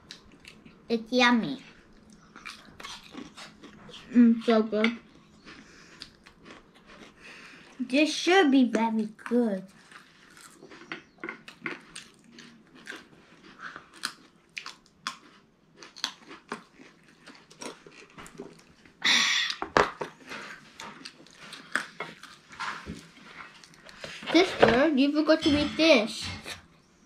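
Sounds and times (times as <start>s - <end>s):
people chewing and crunching food: 0.0s - 24.8s.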